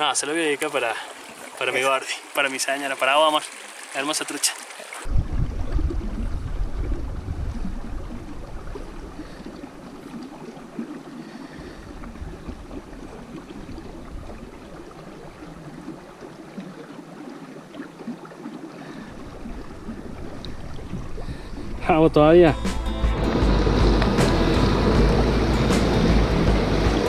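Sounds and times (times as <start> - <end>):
stream running over rocks: 0.0 - 22.5.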